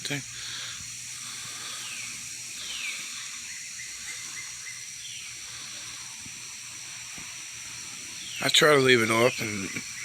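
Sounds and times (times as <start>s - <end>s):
night insects hissing: 0.0s - 10.0s.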